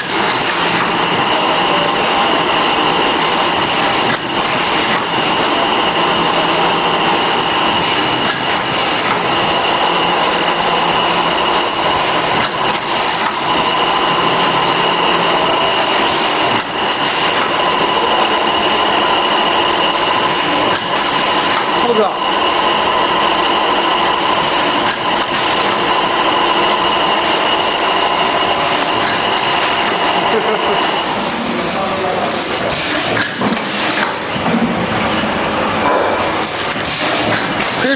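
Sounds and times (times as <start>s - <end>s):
machine whining tones: 0.0s - 37.9s
packaging machine running: 0.0s - 37.9s.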